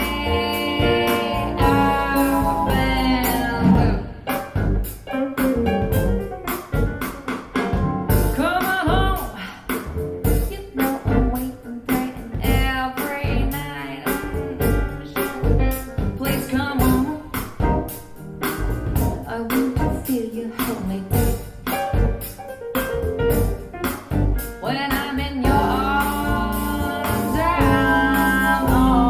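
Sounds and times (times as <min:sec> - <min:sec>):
song with vocals drums and bass: 0:00.0 - 0:29.0.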